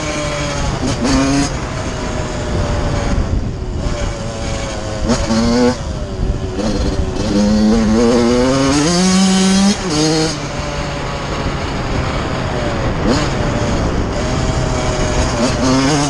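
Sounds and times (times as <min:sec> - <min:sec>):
two-stroke motorbike engine revving: 0:00.0 - 0:16.0.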